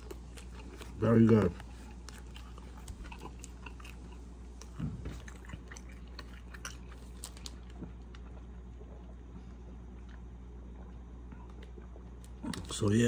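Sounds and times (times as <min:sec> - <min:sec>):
wet chewing clicks and smacks: 0:00.0 - 0:12.9.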